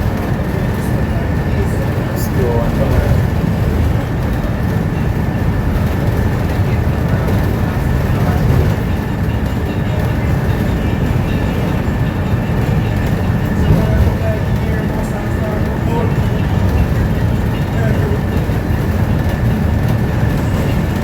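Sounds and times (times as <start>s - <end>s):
bus engine rumble: 0.0s - 21.0s
road noise: 0.0s - 21.0s.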